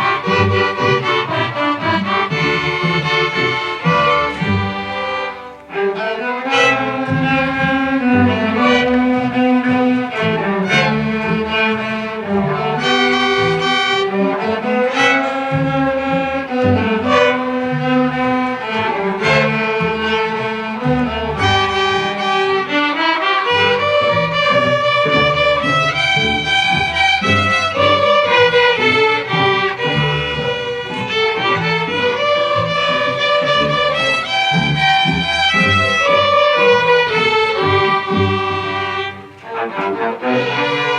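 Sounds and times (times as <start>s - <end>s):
string orchestra playing: 0.0s - 40.9s.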